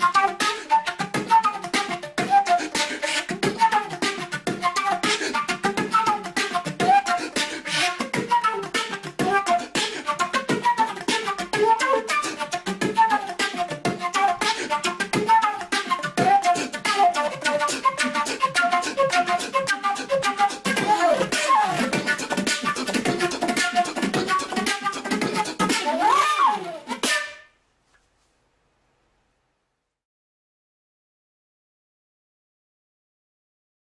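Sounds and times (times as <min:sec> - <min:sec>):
beatbox percussion: 0:00.0 - 0:27.4
flute melody: 0:00.0 - 0:27.6.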